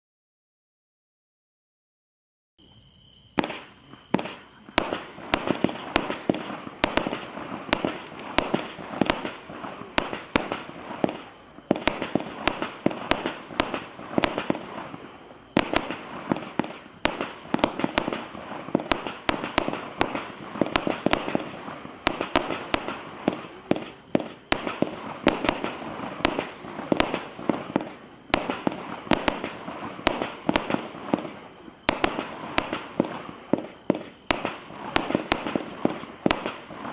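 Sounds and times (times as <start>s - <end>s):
fireworks bangs: 3.2s - 36.9s
fireworks crackle: 3.3s - 36.9s.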